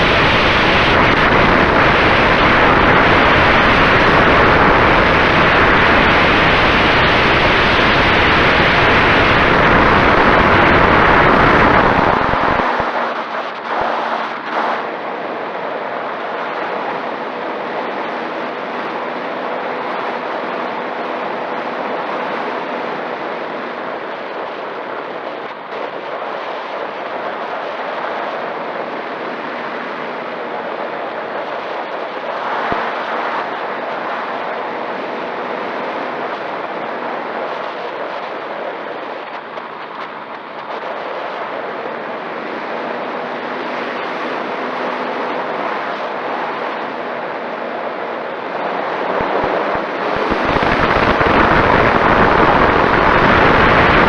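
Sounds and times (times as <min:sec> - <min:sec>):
faint steady hum: 0:00.0 - 0:54.0
steady rushing noise: 0:00.0 - 0:54.0.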